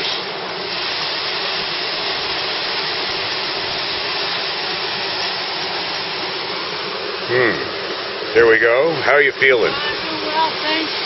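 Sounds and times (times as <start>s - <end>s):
waterfall rushing over boulders: 0.0s - 11.0s.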